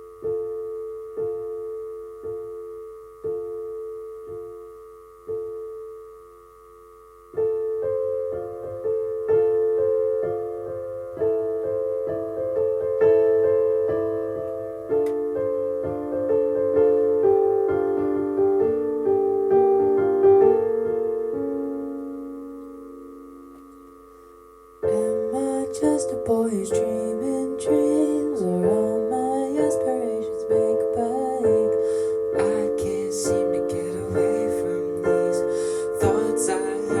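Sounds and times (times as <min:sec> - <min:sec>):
slow solo piano chords: 0:00.0 - 0:06.3, 0:07.3 - 0:37.0.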